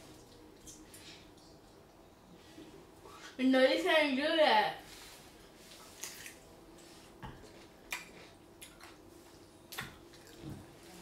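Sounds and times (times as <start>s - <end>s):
quiet room hum: 0.0s - 11.0s.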